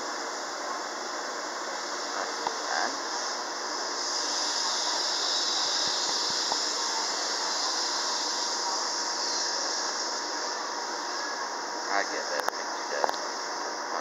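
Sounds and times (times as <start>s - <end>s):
faint whine: 0.0s - 14.0s
subway train hiss: 0.0s - 14.0s.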